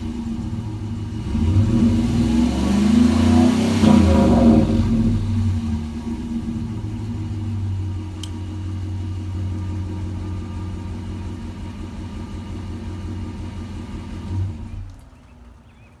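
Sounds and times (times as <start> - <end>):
pickup truck exhaust rumble: 0.0 - 15.0.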